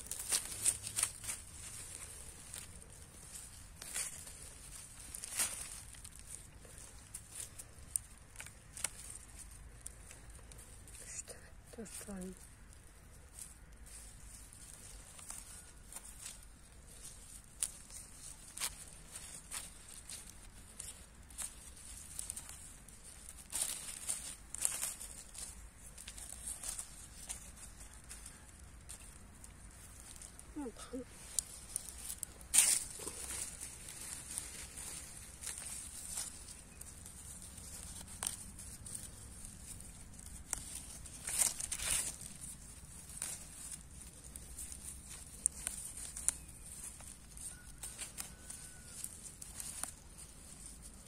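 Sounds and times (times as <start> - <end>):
greens snapping: 0.0 - 11.1, 11.7 - 51.0
leaves rustling and tearing: 0.0 - 51.0.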